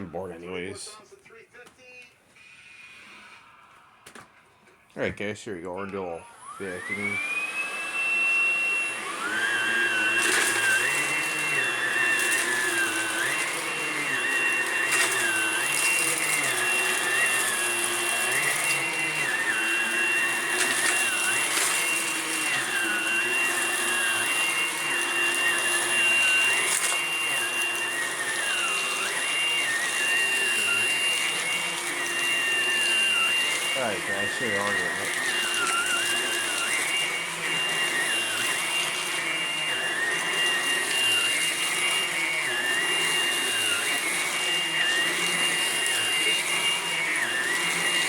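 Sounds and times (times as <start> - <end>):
vacuum cleaner motor whine: 1.8 - 48.0.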